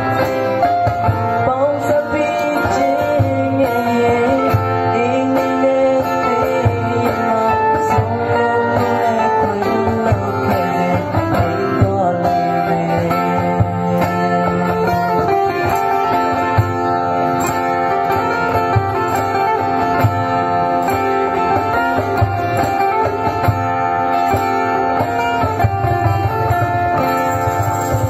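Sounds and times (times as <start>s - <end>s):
acoustic guitars strumming: 0.0s - 28.0s
cajon thumping beat: 0.0s - 28.0s.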